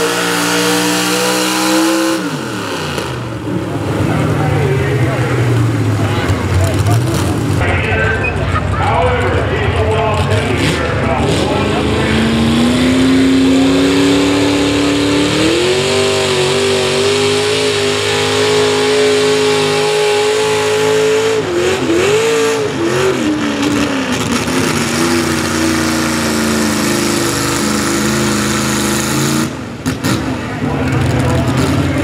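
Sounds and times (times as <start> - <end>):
truck engine at high revs: 0.0 - 32.0.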